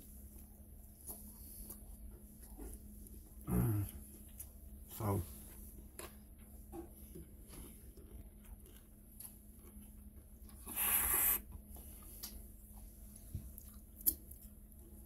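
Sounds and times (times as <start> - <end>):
chewing and handling food: 0.0 - 15.0.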